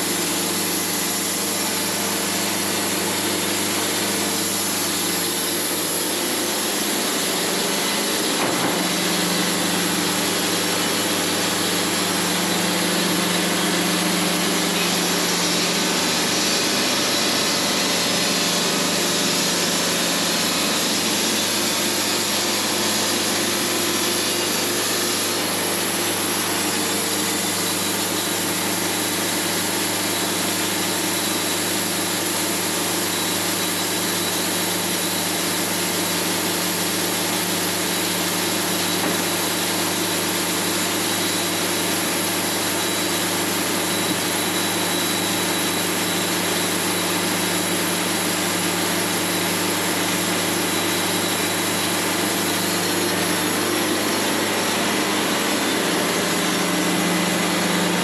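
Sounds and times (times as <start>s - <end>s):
sawmill engine hum: 0.0s - 58.0s.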